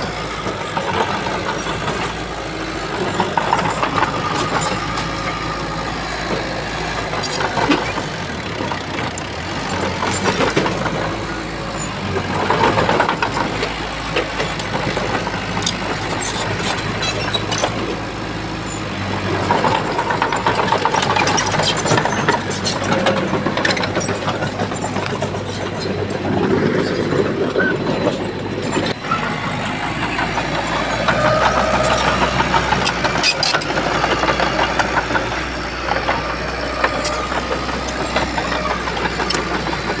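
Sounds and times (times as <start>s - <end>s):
bulldozer diesel engine: 0.0s - 40.0s.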